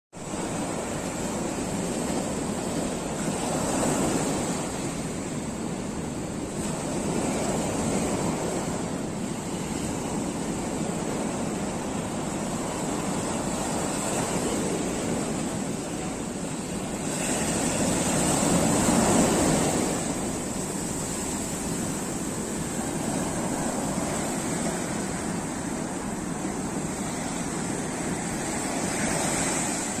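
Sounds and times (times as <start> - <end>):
sea surf breaking: 0.2 - 30.0.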